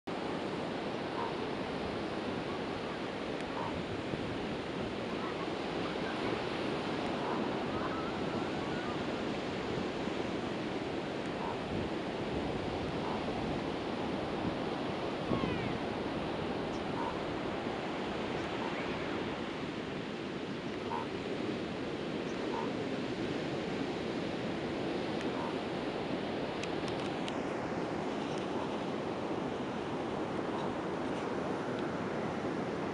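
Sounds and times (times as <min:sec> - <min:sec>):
wind: 0:00.0 - 0:32.9
ocean surf rushing: 0:00.1 - 0:32.9.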